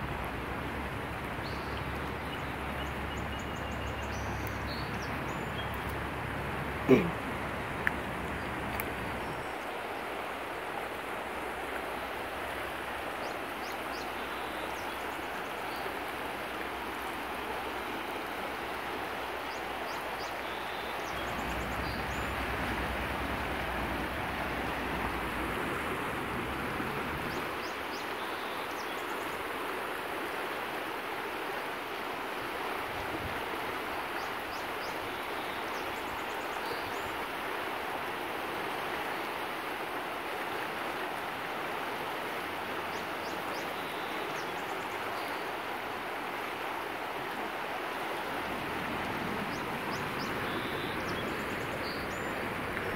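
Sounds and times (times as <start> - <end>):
flowing water: 0.0 - 52.9.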